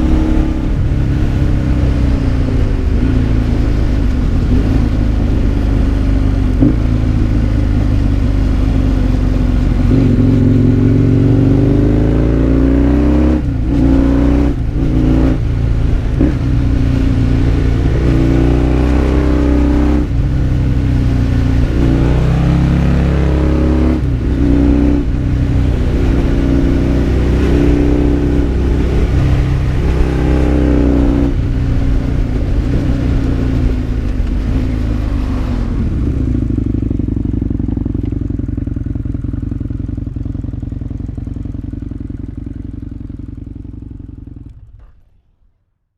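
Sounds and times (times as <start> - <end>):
motorcycle engine revving: 0.0 - 45.6.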